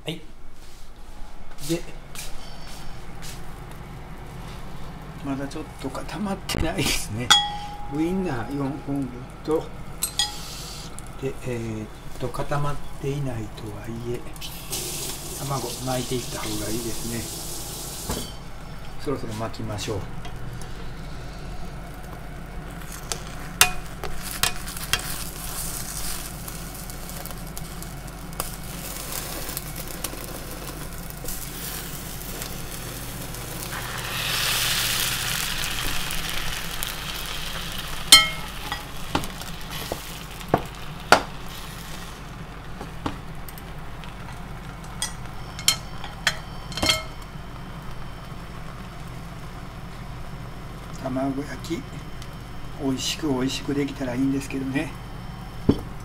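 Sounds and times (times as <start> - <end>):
eggs sizzling in a frying pan: 7.1 - 56.0.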